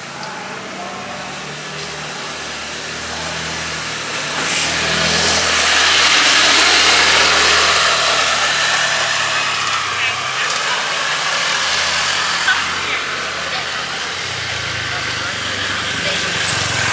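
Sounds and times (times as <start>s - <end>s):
vehicle engine passing by: 0.0s - 16.9s
tyre hiss: 1.8s - 16.9s.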